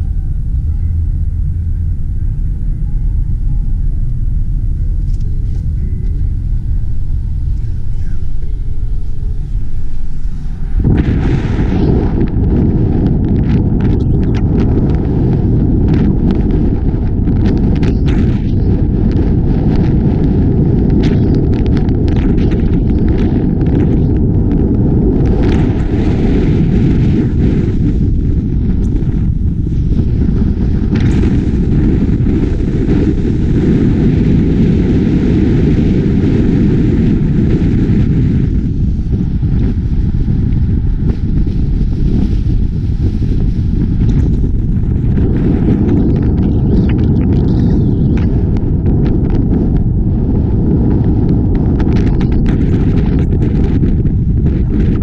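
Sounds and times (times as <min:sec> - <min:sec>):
car road noise: 0:00.0 - 0:50.6
wind buffeting microphone: 0:00.0 - 0:55.0.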